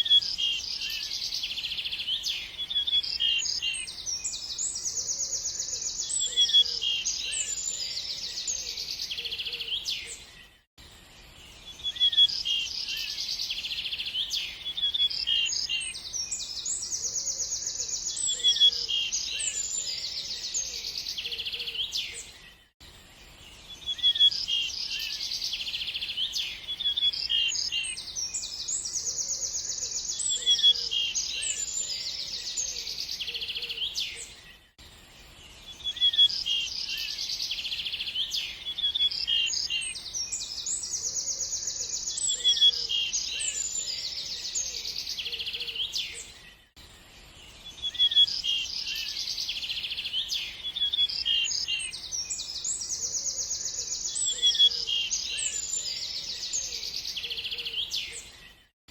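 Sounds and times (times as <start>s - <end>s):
songbirds chirping and trilling: 0.0s - 58.9s.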